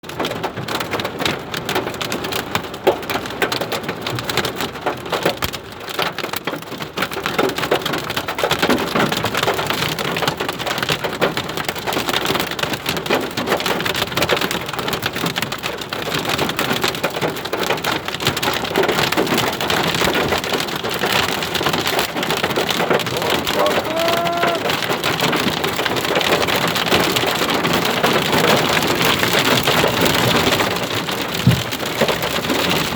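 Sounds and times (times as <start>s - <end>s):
hailstones ticking: 1.6s - 32.9s.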